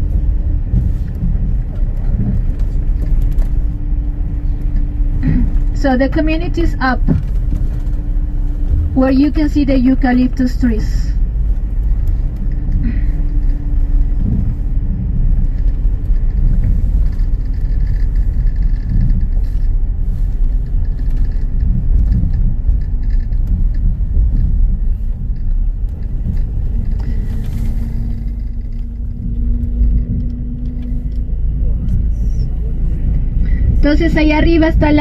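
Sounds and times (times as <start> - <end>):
vehicle driving on road: 0.0 - 35.0.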